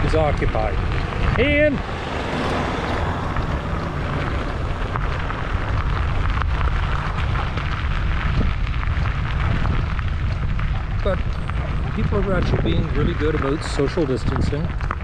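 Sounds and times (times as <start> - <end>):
tyres crunching on gravel: 0.0 - 15.0
wind buffeting microphone: 0.0 - 15.0.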